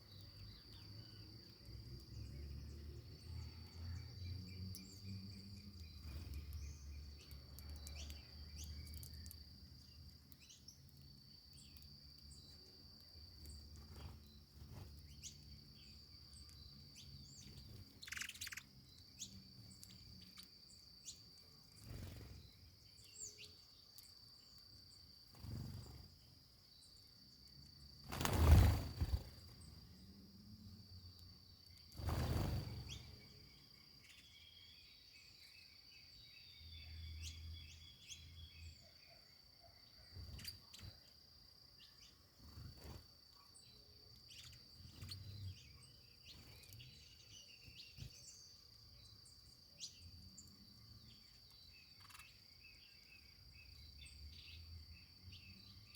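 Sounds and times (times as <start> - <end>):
high insect trill: 3.7 - 38.9, 40.0 - 55.9.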